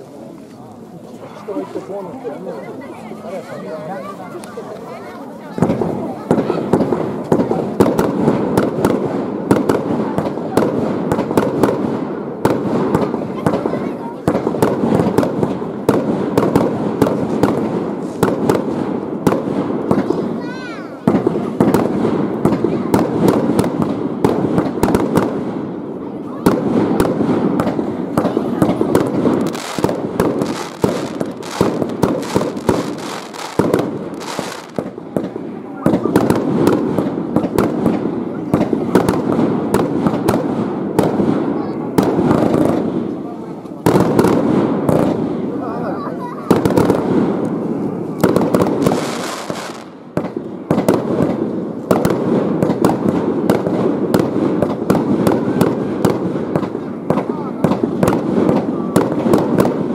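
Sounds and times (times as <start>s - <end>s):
crackling hiss of fireworks: 0.0s - 59.9s
fireworks bangs and pops: 4.1s - 59.9s.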